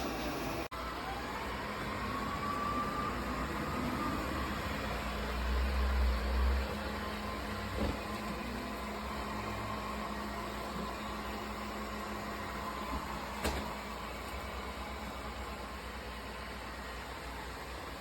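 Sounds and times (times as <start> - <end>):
robot vacuum whirring hum: 0.0 - 18.0.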